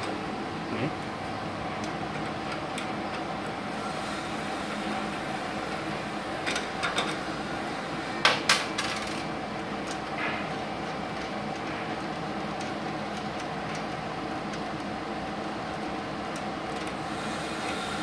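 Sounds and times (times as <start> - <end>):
welding machine fan whirring: 0.0 - 18.0.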